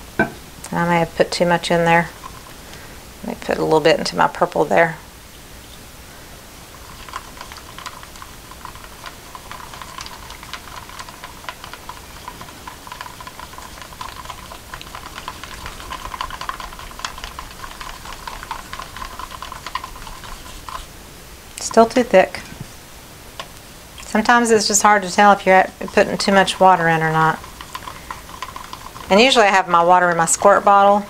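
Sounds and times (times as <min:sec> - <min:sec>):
stick stirring paint in cup: 0:00.8 - 0:04.9, 0:06.6 - 0:21.0, 0:21.6 - 0:22.4, 0:23.4 - 0:31.0.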